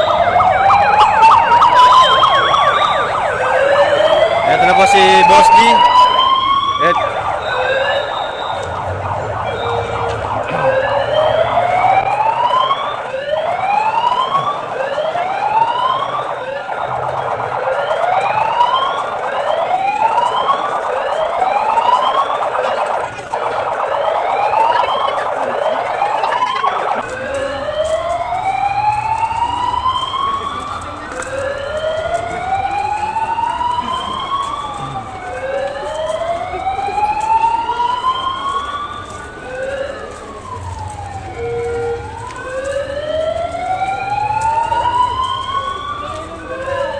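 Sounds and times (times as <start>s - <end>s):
siren whooping: 0.0s - 46.9s.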